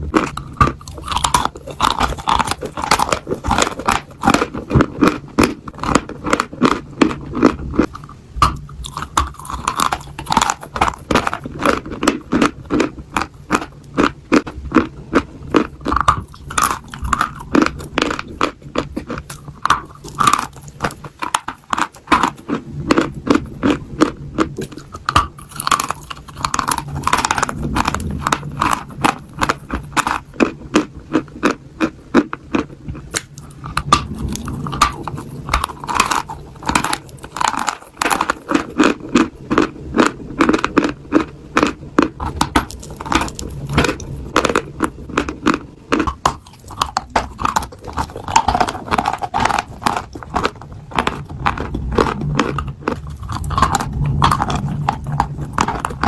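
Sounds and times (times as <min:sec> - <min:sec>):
chalk being chewed crunching: 0:00.0 - 0:56.0.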